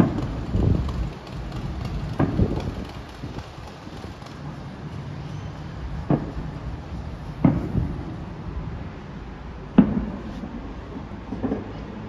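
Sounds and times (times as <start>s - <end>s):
distant fireworks bursting: 0.0s - 12.0s
steady low rumble: 0.0s - 12.0s.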